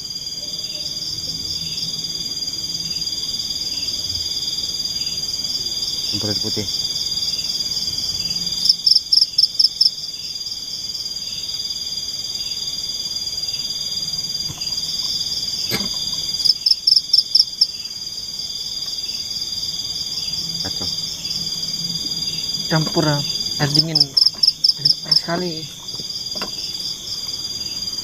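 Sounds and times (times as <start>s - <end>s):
insect chorus trilling: 0.0s - 28.0s
loud pulsed insect call: 0.0s - 28.0s.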